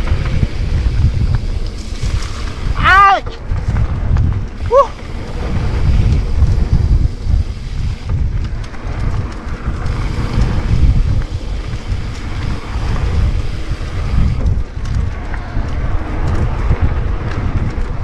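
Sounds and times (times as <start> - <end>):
bike clicks and rattles: 0.0 - 18.0
wind buffeting microphone: 0.0 - 18.0.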